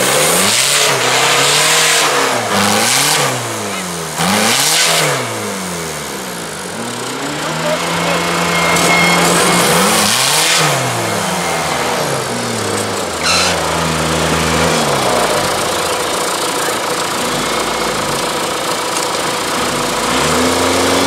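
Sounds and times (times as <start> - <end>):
buggy engine revving: 0.0 - 21.0
loud rushes of noise: 0.0 - 21.0.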